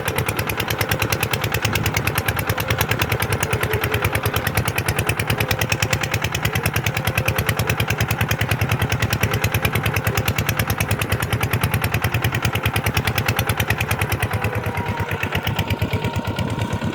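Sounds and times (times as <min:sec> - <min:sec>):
diesel tractor engine running: 0:00.0 - 0:16.9.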